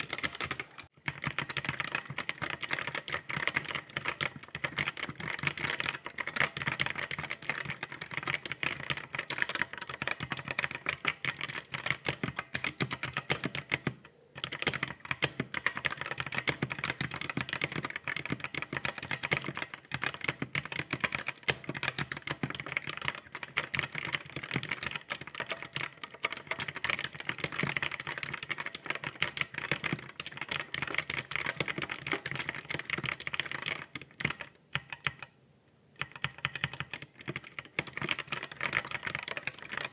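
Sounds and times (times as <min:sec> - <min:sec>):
keyboard typing: 0:00.0 - 0:35.3, 0:36.0 - 0:39.9.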